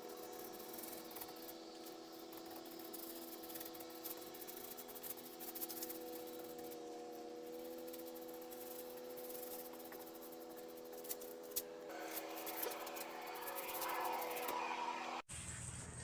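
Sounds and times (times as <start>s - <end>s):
paint spray hiss: 0.0s - 15.2s
paint sprayer motor hum: 0.0s - 15.3s.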